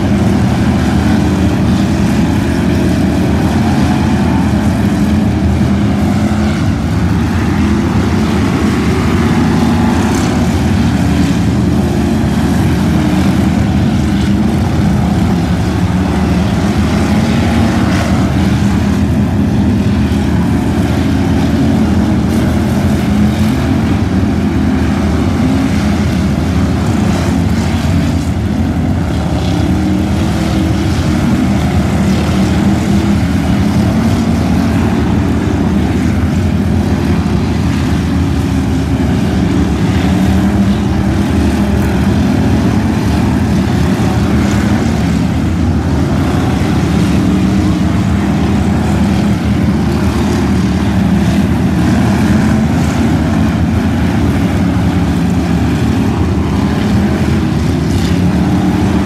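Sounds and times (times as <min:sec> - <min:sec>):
stock car engines droning: 0:00.0 - 0:59.0.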